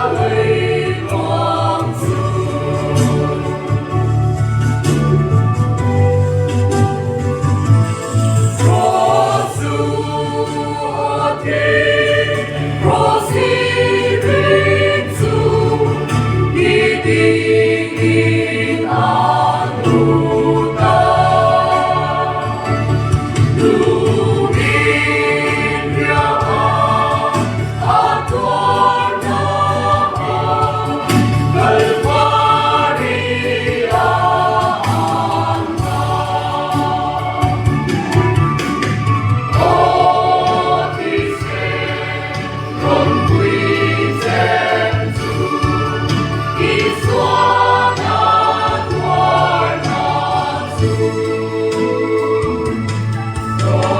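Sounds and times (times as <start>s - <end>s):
choir singing gospel: 0.0s - 53.9s
low musical accompaniment: 0.0s - 53.9s.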